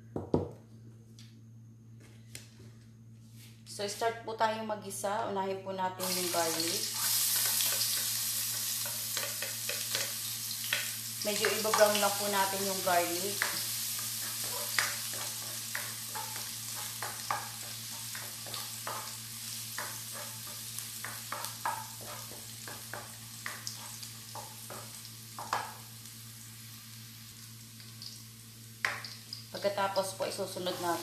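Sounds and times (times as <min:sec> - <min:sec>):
garlic sizzling in oil: 0:06.0 - 0:31.0.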